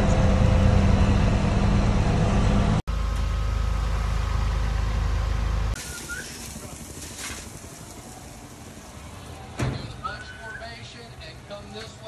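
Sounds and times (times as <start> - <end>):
diesel engine deep rumble: 0.0 - 12.0.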